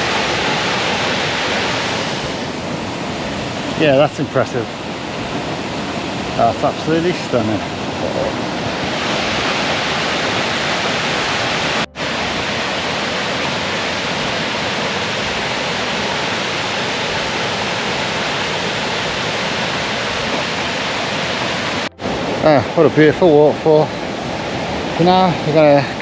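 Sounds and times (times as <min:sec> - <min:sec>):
waterfall roar: 0:00.0 - 0:26.0.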